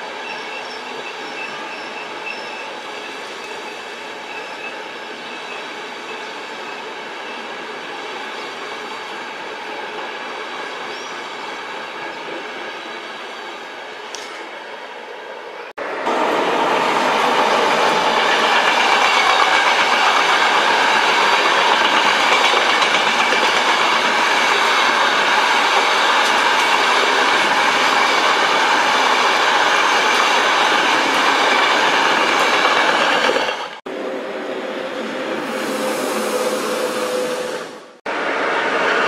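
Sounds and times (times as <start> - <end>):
train wheels rushing on rails: 0.0 - 39.0.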